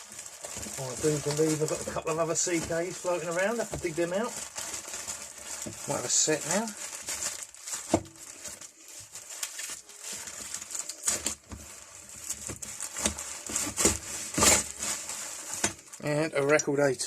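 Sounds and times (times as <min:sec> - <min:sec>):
packaging crinkling: 0:00.0 - 0:16.6.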